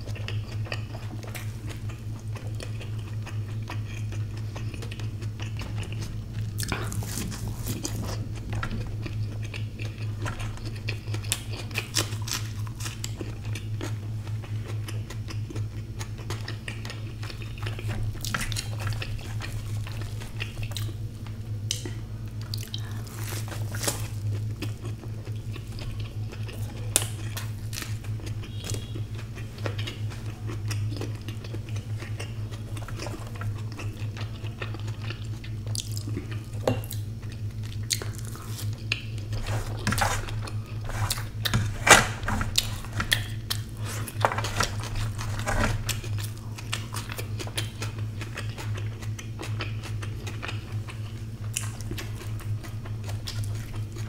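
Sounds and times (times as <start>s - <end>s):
chewing: 0.0s - 54.0s
steady low hum: 0.0s - 54.0s.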